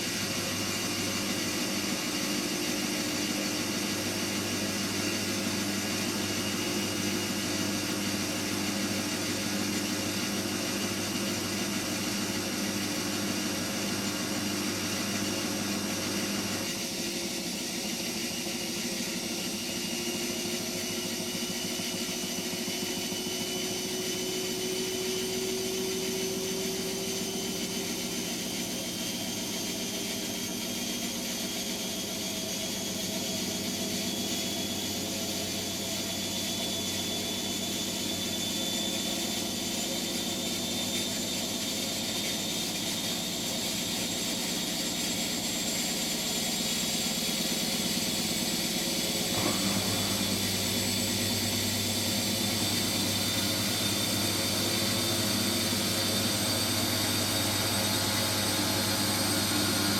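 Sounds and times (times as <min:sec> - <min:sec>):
rising whine of spinning drum: 0:00.0 - 0:59.9.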